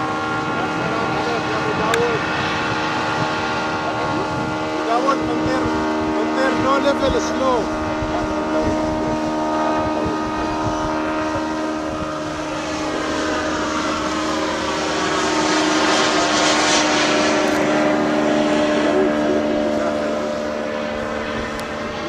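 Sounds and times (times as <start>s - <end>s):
model airplane motor droning: 0.0s - 22.0s.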